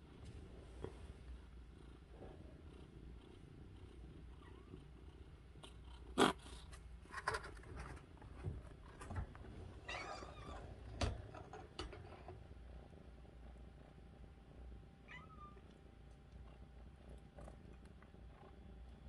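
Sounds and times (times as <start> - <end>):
kitten purring: 0.1 - 8.0, 8.6 - 19.0.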